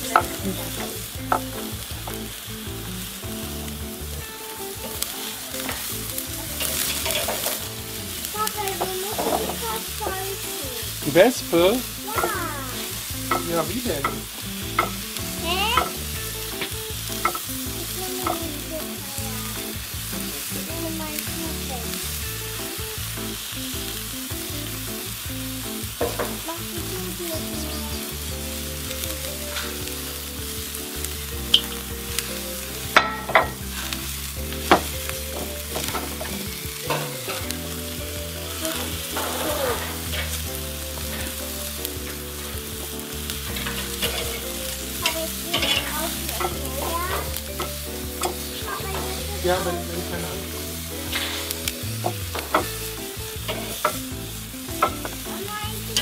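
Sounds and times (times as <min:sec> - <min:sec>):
steaks sizzling on a grill: 0:00.0 - 0:56.0.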